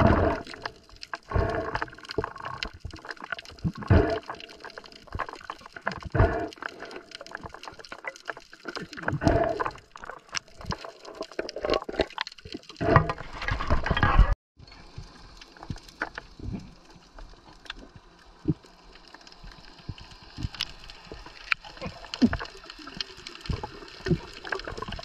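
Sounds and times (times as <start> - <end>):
water sloshing and splashing: 0.0 - 14.2, 14.9 - 25.0
underwater sound: 0.0 - 25.0.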